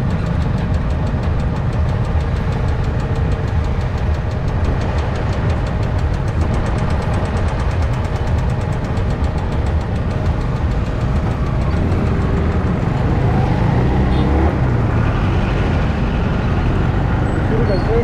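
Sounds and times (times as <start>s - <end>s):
road and wind rumble: 0.0s - 18.0s
vehicle engine running: 0.0s - 18.0s.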